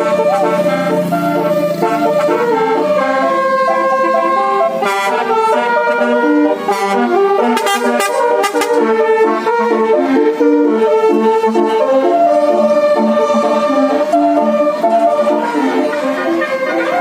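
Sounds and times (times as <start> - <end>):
multi-tone horn playing a tune: 0.0 - 17.0.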